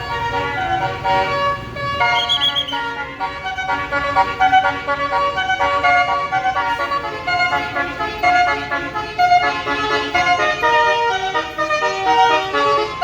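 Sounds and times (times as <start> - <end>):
air horn playing a melody: 0.0 - 13.0
bus engine rumbling: 0.0 - 13.0.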